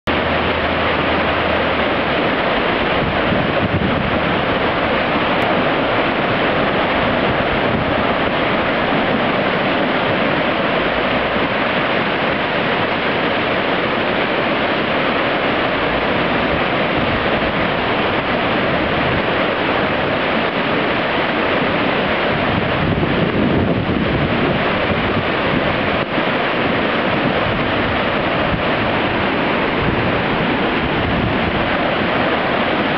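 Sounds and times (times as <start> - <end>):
floodwater rushing: 0.0 - 32.9
rocks carried along riverbed: 0.1 - 32.9.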